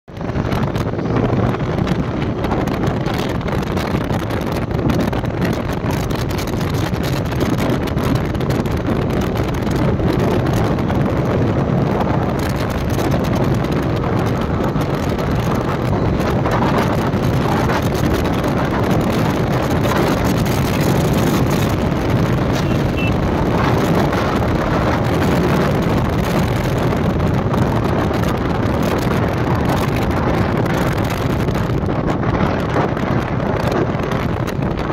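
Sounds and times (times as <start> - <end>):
wind rush on microphone: 0.0 - 34.9
motorcycle engine running: 0.1 - 34.9.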